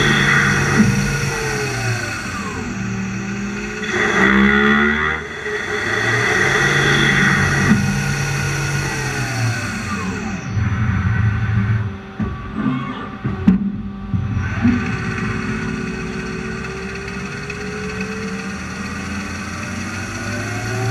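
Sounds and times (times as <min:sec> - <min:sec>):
lathe drives whining: 0:00.0 - 0:20.9.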